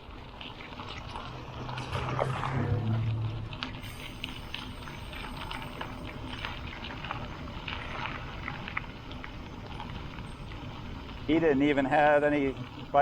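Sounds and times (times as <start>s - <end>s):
pickup truck engine hum: 0.0s - 11.2s
bicycle tyres rolling over gravel: 0.0s - 13.0s.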